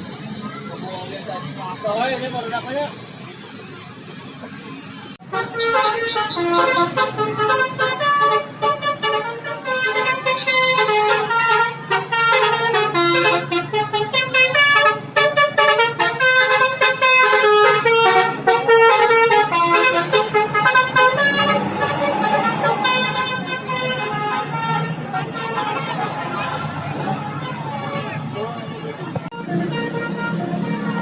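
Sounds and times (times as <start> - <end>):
musical bus horn playing a tune: 5.2 - 31.0.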